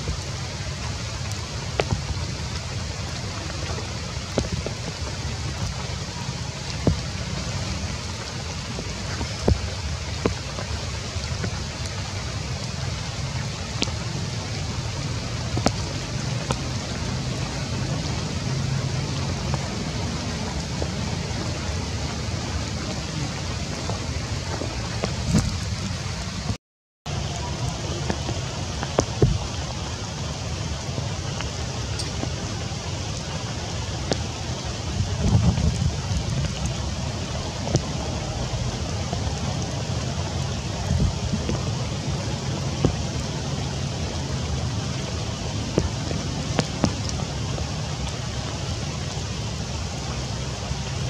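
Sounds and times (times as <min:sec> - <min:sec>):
low steady rumble: 0:00.0 - 0:51.0
rain falling on foliage: 0:00.0 - 0:51.0
raindrops clicking: 0:00.0 - 0:51.0.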